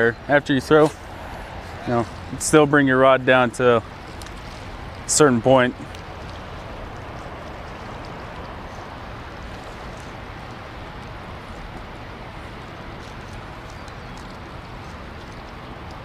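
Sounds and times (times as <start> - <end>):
water rushing through dam gates: 0.0 - 16.0.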